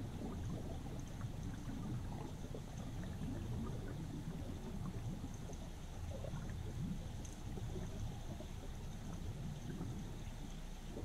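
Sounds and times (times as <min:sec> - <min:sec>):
faint bubbling and gurgling: 0:00.0 - 0:11.0
underwater river current rumble: 0:00.0 - 0:11.0.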